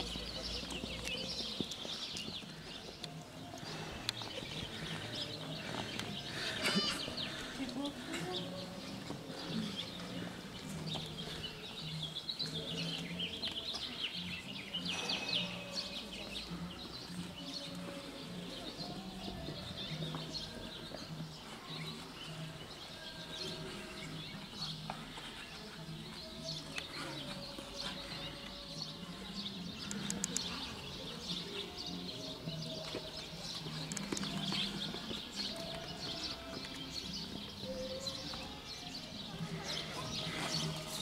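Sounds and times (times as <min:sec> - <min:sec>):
murmur of voices: 0:00.0 - 0:41.0
small birds chirping: 0:00.0 - 0:41.0.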